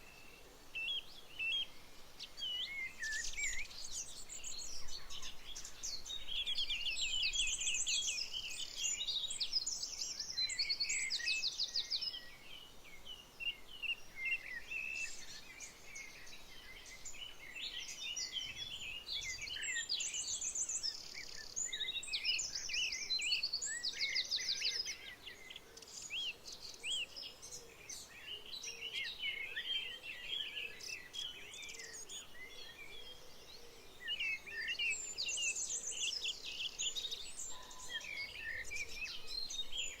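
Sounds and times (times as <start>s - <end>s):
songbirds chirping chorus: 0.0s - 40.0s.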